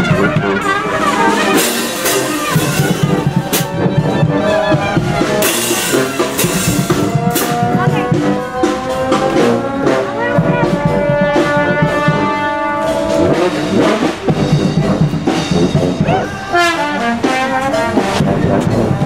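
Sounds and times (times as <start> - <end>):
brass band playing: 0.0 - 19.0
drums striking: 0.0 - 19.0.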